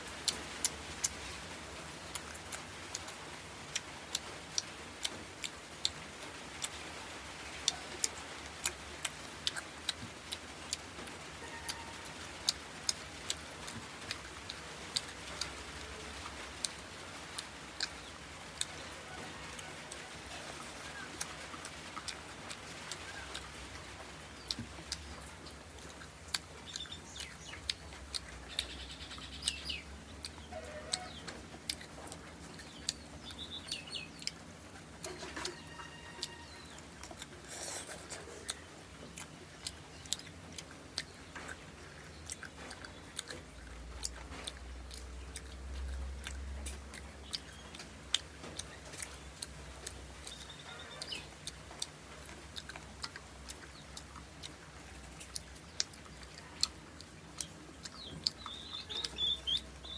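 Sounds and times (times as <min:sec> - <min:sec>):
chewing and mouth smacks: 0:00.1 - 0:59.9.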